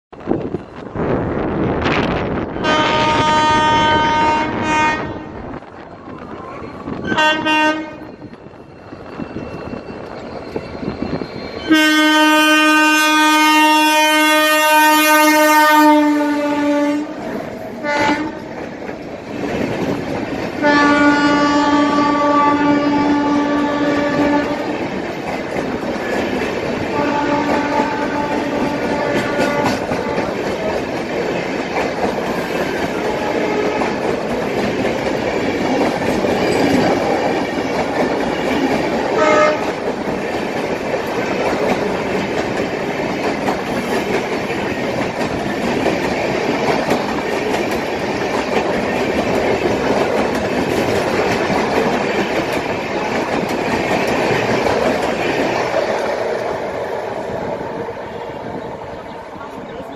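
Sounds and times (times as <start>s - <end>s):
train wheels clickety-clack: 5.6s - 59.9s.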